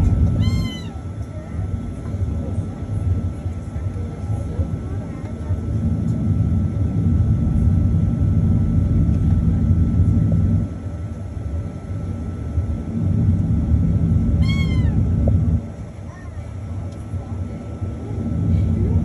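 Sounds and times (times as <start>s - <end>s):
airplane cabin rumble taxiing: 0.0s - 19.0s.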